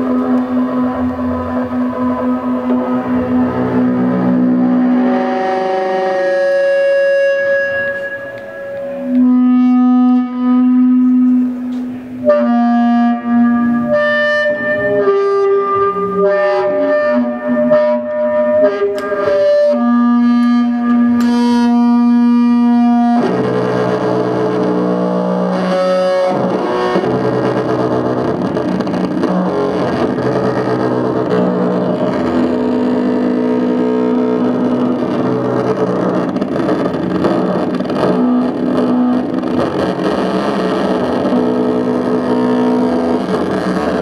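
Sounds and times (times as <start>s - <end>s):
bowed electric string instrument: 0.0s - 44.0s.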